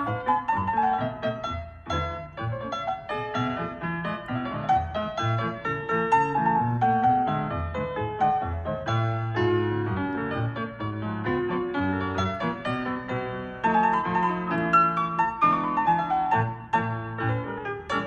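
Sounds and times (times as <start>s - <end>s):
lively piano music: 0.0s - 18.0s.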